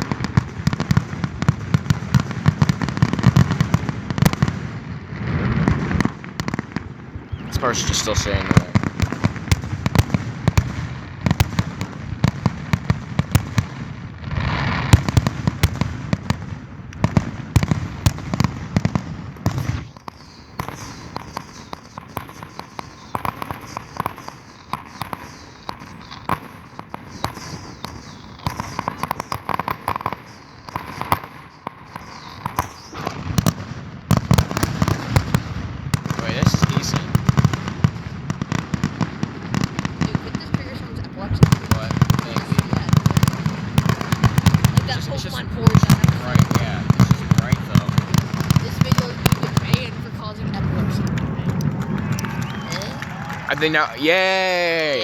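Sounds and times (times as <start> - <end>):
falling firework whistles: 0.0 - 16.4, 17.0 - 55.0
fireworks bangs and crackling: 0.0 - 55.0.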